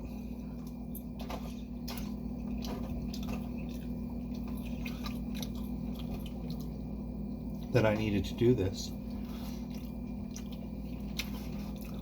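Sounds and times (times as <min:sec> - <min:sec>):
person chewing food: 0:00.0 - 0:08.0, 0:08.9 - 0:12.0.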